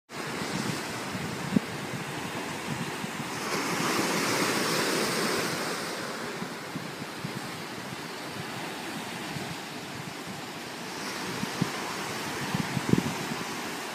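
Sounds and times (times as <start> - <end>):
ocean surf breaking: 0.1 - 13.9
wind buffeting microphone: 0.1 - 13.9.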